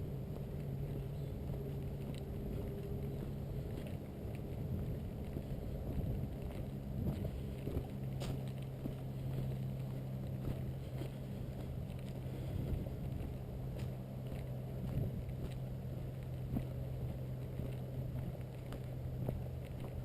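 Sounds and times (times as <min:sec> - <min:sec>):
footsteps on dirt trail: 0:00.0 - 0:20.0
steady low rumble: 0:00.0 - 0:20.0.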